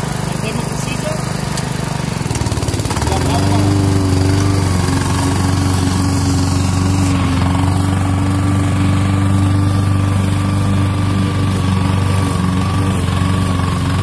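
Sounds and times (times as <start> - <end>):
lawn mower running: 0.0 - 14.0.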